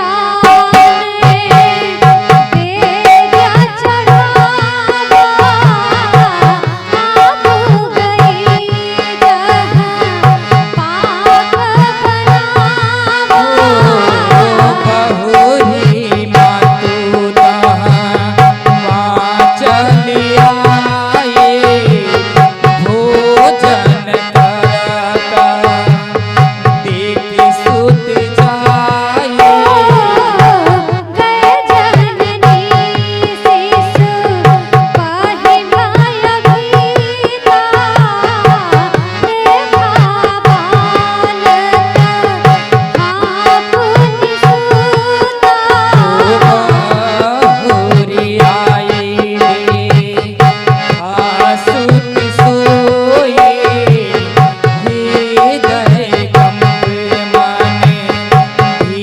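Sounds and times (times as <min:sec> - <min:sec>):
tabla rhythm: 0:00.0 - 0:59.0.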